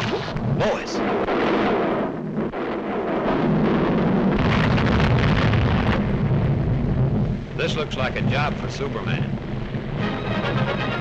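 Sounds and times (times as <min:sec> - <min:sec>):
cartoon volcano rumbling explosion: 0:00.0 - 0:11.0.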